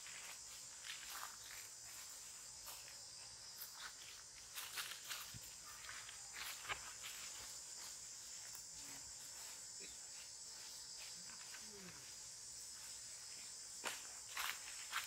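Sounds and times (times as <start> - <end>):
chorus of forest insects: 0.0 - 15.0.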